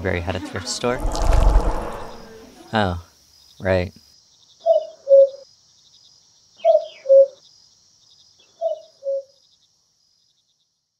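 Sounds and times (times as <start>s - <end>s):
crickets chirping: 0.8s - 10.8s.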